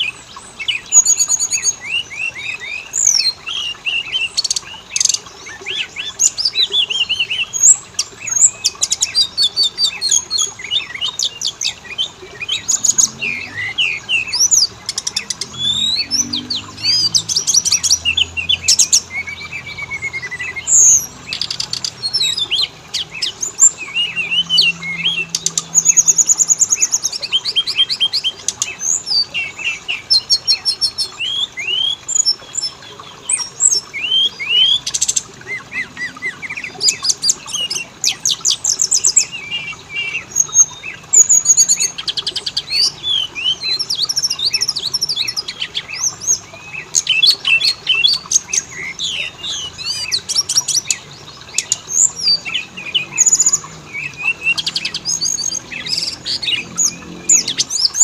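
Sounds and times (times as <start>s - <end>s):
songbirds singing whistles and trills: 0.0s - 58.0s.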